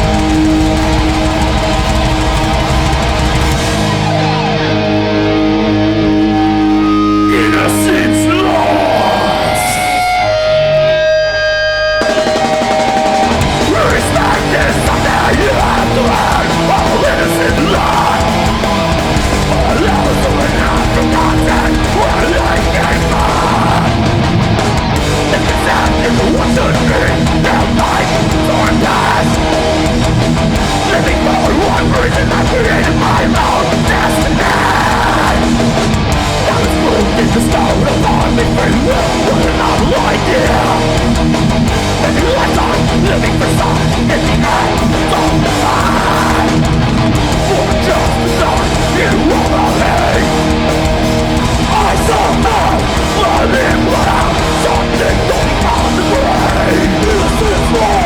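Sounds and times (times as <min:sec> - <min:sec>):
metal band playing live: 0:00.0 - 0:58.0.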